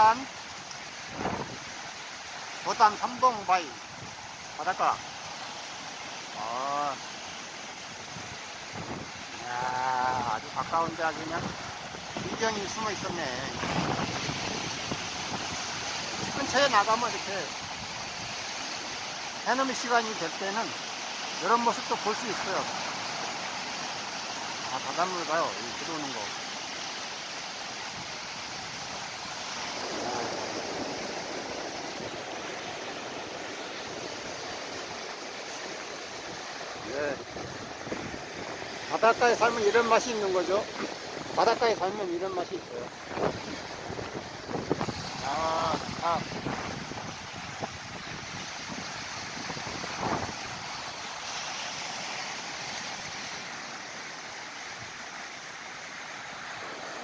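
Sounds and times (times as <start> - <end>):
sea waves washing ashore: 0.0 - 57.0
surf on rocky shore: 0.0 - 57.0.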